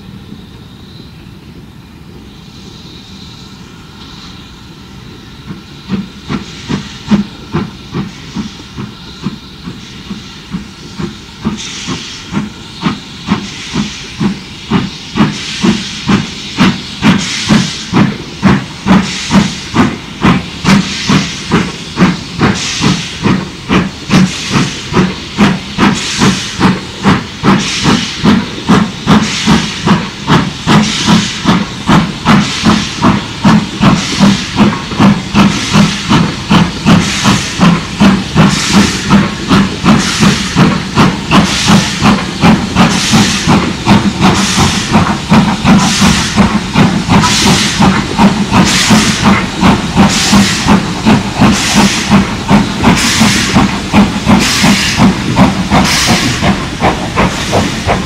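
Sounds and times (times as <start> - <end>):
steam hissing: 0.0 - 58.0
steam locomotive exhaust chuffing: 0.0 - 58.0.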